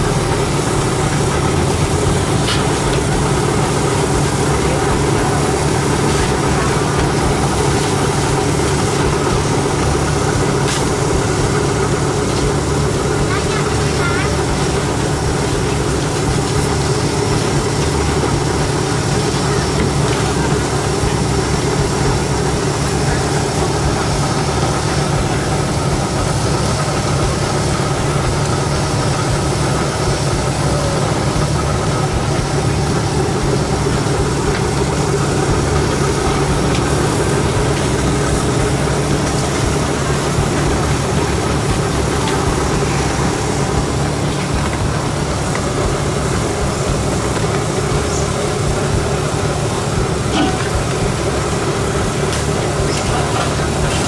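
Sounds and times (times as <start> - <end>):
mechanical drone with low hum: 0.0 - 54.0.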